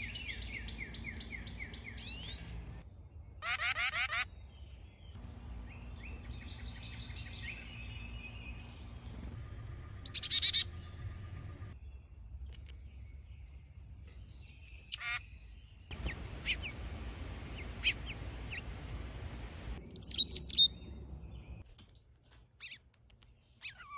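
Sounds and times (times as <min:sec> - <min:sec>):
low outdoor hum: 0:00.0 - 0:23.9
songbirds chirping: 0:00.0 - 0:23.9.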